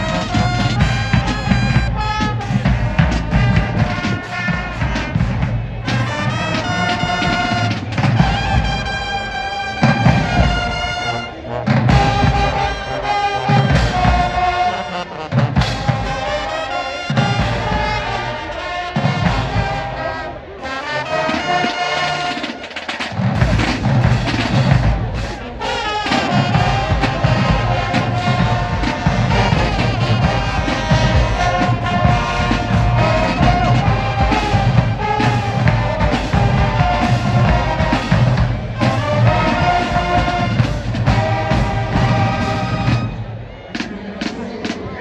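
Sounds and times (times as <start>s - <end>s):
brass horns playing: 0.0s - 44.9s
drum line: 0.0s - 45.0s.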